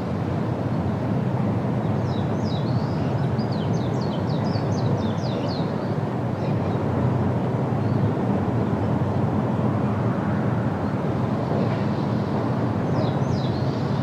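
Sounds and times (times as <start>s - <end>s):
wind with low rumble: 0.0s - 14.0s.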